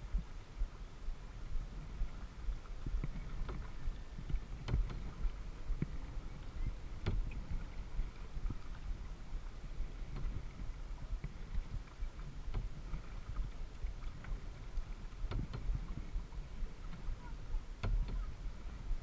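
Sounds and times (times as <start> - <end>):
steady low rumble: 0.0 - 19.0
water sloshing around kayak hull: 0.0 - 19.0.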